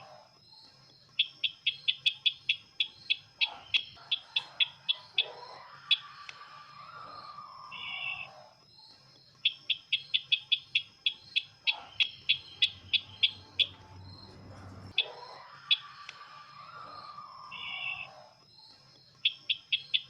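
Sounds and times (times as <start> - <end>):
bird trilling and chirping: 0.0 - 20.0.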